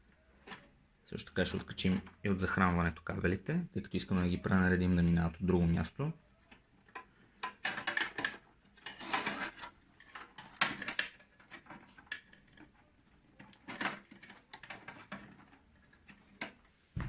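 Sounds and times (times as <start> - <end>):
plastic cables clicking and scraping: 0.0 - 3.2, 5.3 - 16.7.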